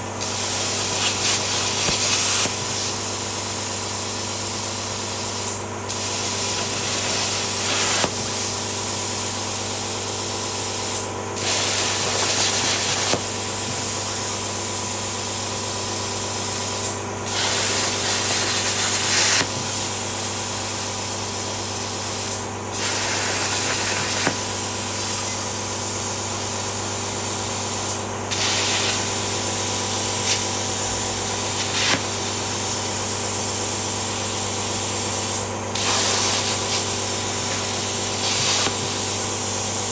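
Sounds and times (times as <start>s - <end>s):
plasma cutter hissing: 0.2s - 39.8s.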